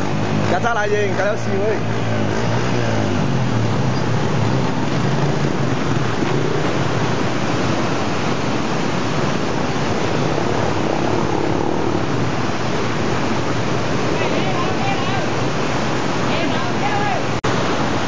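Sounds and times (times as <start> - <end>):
motorcycle engines droning: 0.0 - 18.0
water rushing: 0.0 - 18.0.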